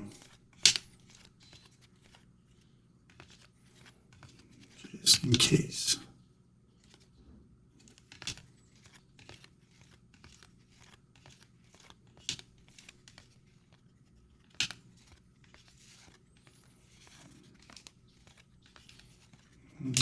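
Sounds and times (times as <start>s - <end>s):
cards rustling: 0.1s - 6.0s, 6.7s - 7.2s, 7.8s - 20.0s.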